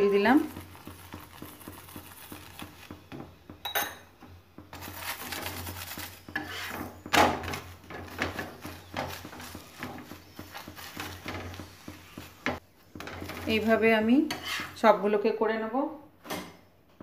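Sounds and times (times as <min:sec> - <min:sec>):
spoon and spatula scraping on griddle: 0:00.0 - 0:03.6, 0:04.7 - 0:14.9.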